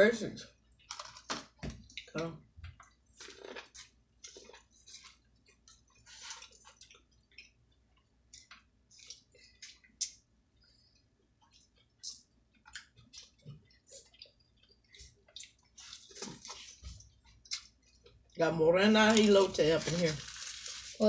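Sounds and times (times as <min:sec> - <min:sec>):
person chewing with smacks: 0:00.6 - 0:18.4.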